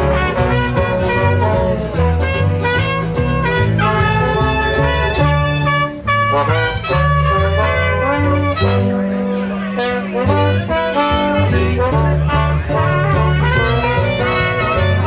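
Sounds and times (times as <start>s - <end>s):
brass horns playing melody: 0.0s - 15.0s
rhythm accompaniment: 0.0s - 15.0s
stepping bass line: 0.0s - 15.0s.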